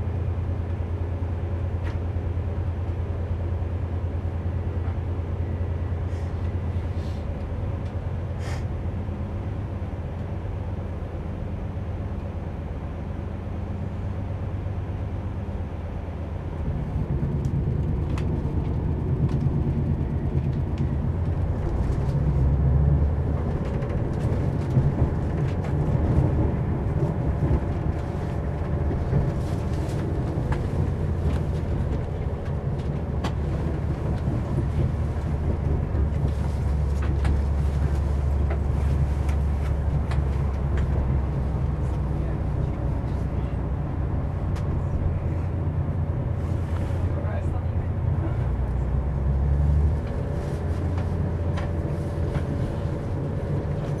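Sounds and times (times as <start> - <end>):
train low hum: 0.0 - 54.0
train rumbling along track: 0.0 - 54.0.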